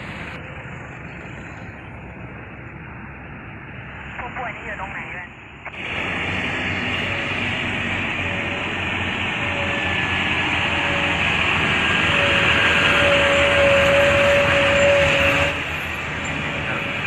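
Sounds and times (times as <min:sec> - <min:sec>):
truck diesel engine: 0:00.0 - 0:17.0
tyres on wet road: 0:00.0 - 0:17.0.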